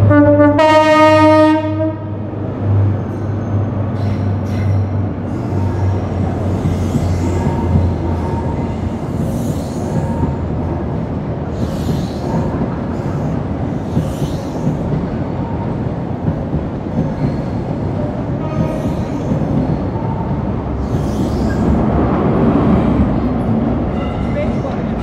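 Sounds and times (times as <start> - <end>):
train coaches rumbling on rails: 0.0 - 25.0.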